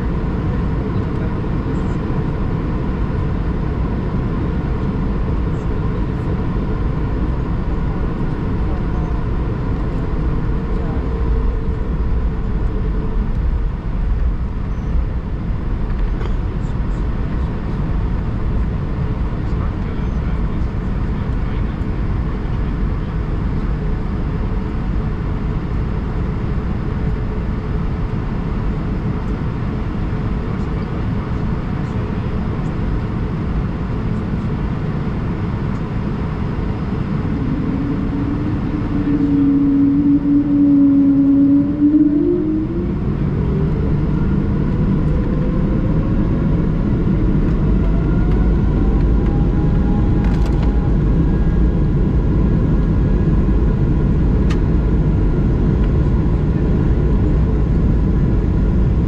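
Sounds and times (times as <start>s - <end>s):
jet engine whine rising: 0.0s - 59.0s
jet engines rumbling in cabin: 0.0s - 59.0s
loud steady hum: 0.0s - 59.0s.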